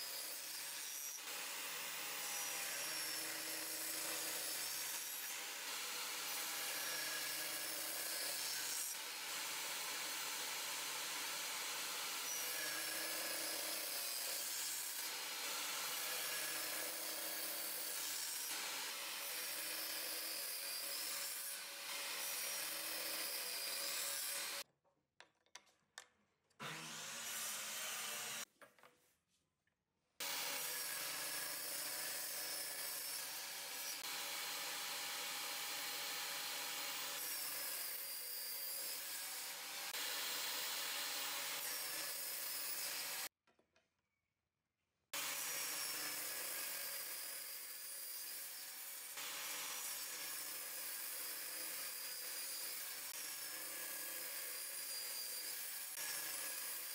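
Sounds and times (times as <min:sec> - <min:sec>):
power saw cutting wood: 0:00.0 - 0:24.6, 0:26.6 - 0:28.5, 0:30.2 - 0:43.3, 0:45.2 - 0:56.9.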